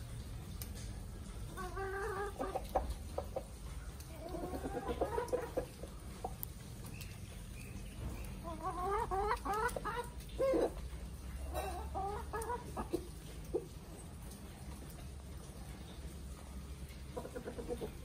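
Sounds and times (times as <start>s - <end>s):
chickens clucking: 0.4s - 18.0s.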